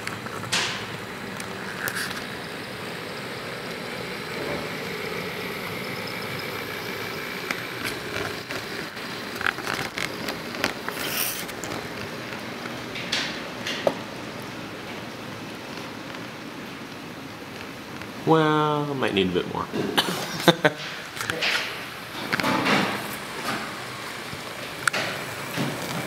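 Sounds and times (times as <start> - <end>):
model train rolling hum: 0.0 - 19.4, 20.8 - 26.0.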